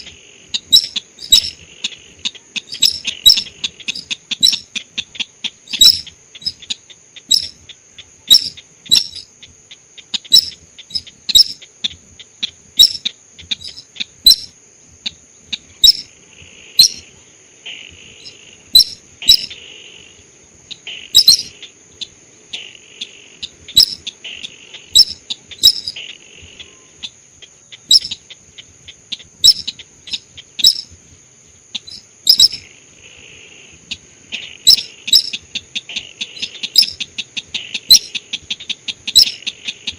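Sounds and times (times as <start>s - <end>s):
high insect-like drone: 0.0s - 9.4s, 12.7s - 39.9s.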